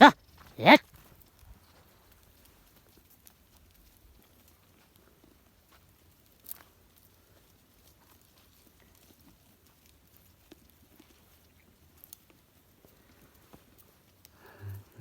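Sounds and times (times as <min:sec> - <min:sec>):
goats stepping through undergrowth: 0:00.2 - 0:15.0.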